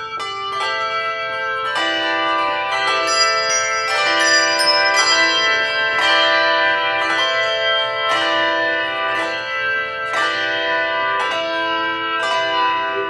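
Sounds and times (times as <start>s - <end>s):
handbell choir playing chords: 0.0s - 13.0s.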